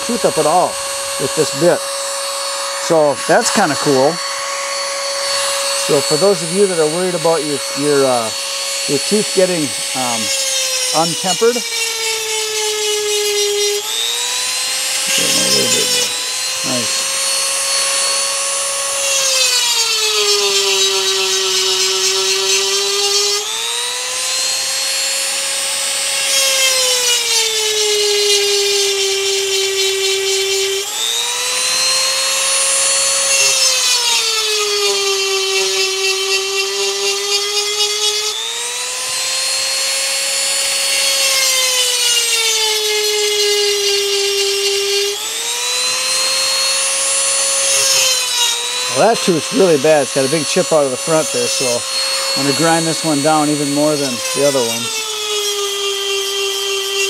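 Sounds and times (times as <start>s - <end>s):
rotary tool grinding whine: 0.0s - 57.0s.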